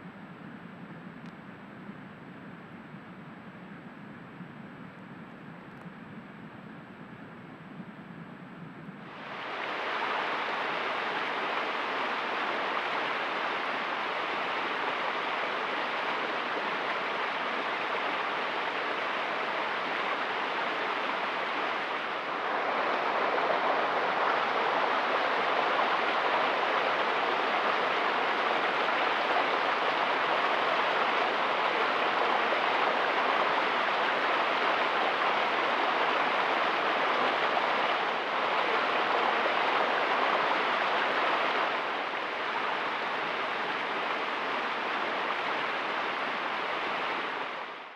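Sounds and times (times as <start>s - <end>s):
creek water rushing over rocks: 9.1s - 47.9s.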